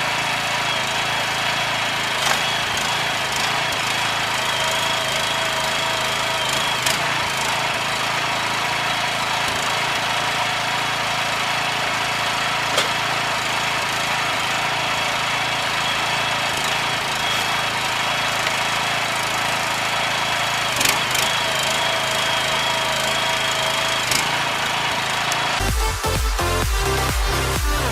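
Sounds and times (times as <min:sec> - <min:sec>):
woodworking machine whining: 0:00.0 - 0:27.9.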